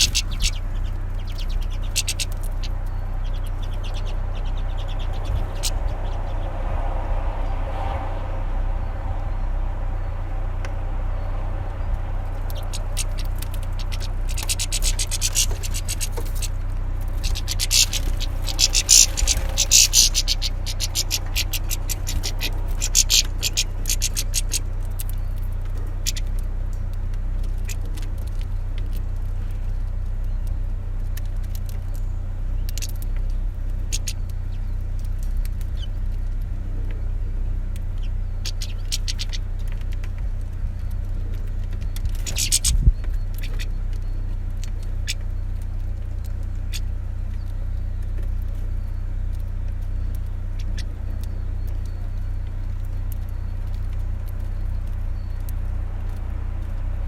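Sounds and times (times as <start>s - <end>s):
finches pecking and cracking seed: 0.0s - 6.4s, 11.4s - 57.0s
steady low rumble: 0.0s - 57.0s.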